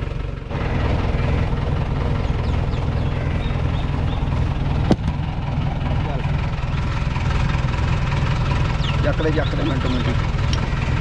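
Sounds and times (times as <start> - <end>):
jeep engine idling: 0.0 - 11.0.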